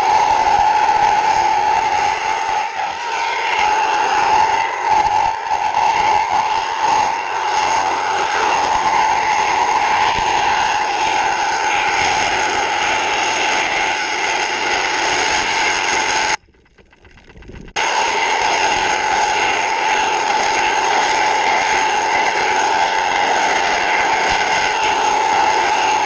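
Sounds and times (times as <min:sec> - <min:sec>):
mechanical drone: 0:00.0 - 0:26.0.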